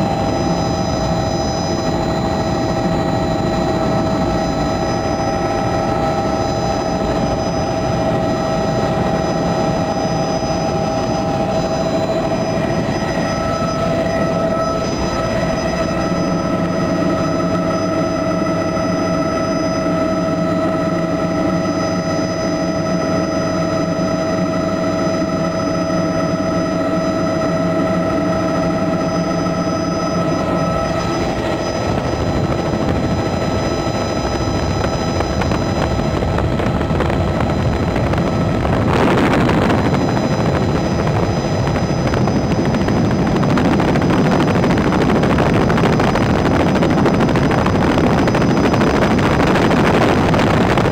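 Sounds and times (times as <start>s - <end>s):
helicopter engine and rotor noise: 0.0s - 50.9s
high steady whines: 0.0s - 50.9s
rush of noise: 0.0s - 50.9s.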